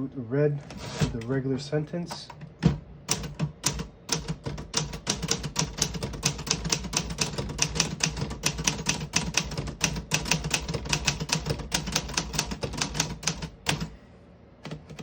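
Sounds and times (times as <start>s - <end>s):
manual typewriter typing: 2.2s - 14.0s, 14.6s - 15.0s.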